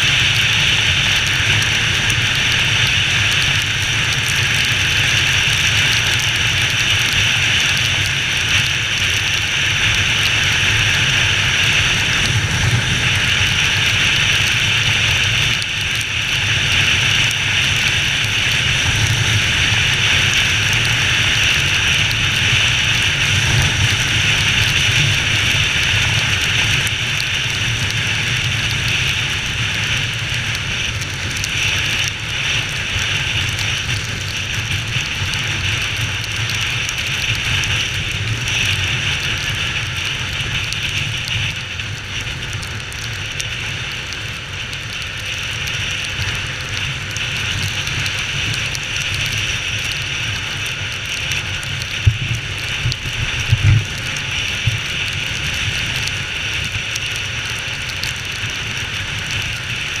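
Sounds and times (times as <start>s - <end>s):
heavy rain hiss: 0.0s - 60.0s.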